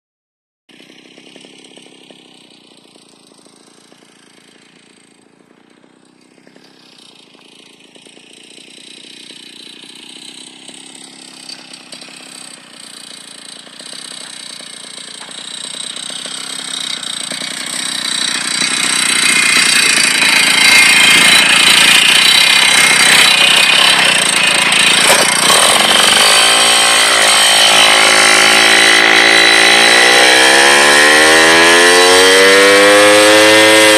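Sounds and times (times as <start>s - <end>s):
moped two-stroke engine running: 0.7s - 33.9s.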